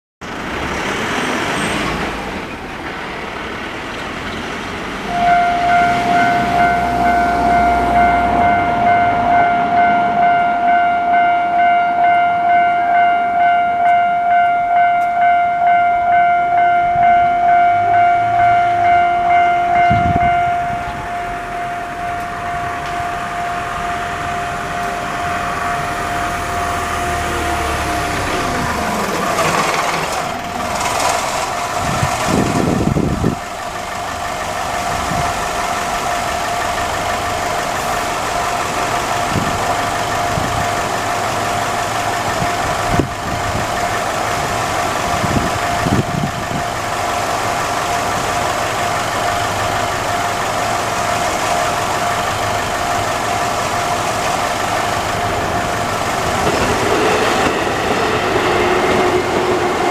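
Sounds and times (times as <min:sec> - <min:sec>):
vehicles idling and passing: 0:00.2 - 0:59.9
level crossing warning bell: 0:05.1 - 0:59.9.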